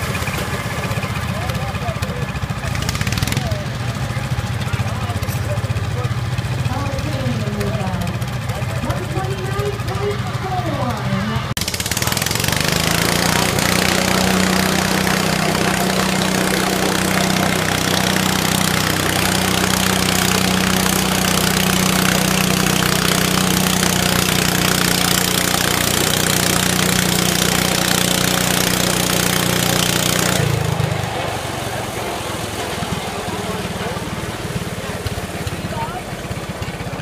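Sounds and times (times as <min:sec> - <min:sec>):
tractor engine running flat out: 0:00.0 - 0:37.0.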